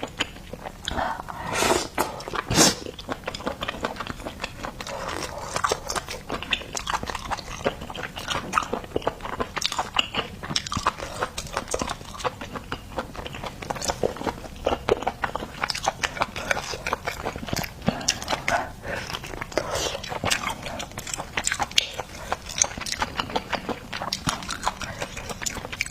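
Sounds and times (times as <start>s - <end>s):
wet chewing and crunching: 0.0s - 25.9s.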